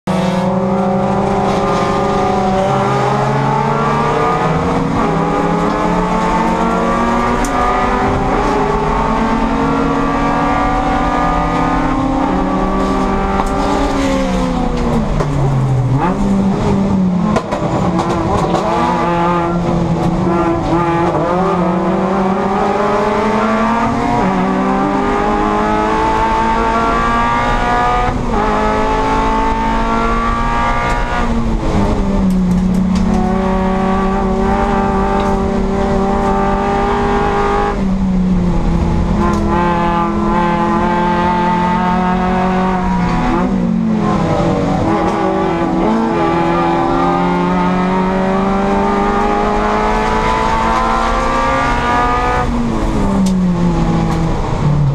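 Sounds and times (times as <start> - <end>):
car engine revving hard: 0.1 - 54.9.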